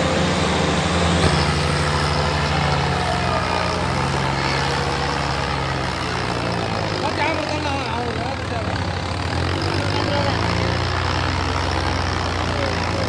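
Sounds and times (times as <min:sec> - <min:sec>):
tractor diesel engines under load: 0:00.0 - 0:13.0.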